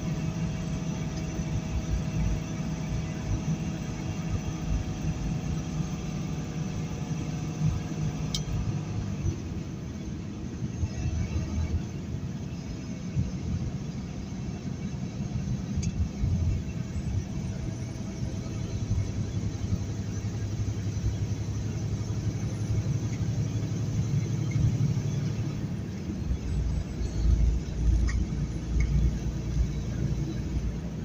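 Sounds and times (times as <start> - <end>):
truck rumble from inside cab: 0.0 - 31.0.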